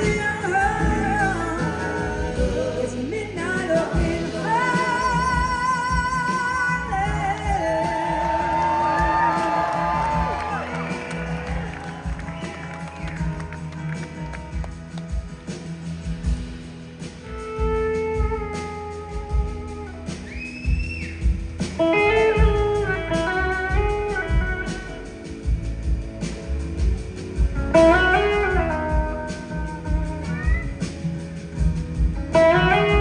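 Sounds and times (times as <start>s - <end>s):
slide guitar melody: 0.0s - 20.2s, 21.3s - 33.0s
drums and bass: 0.0s - 33.0s.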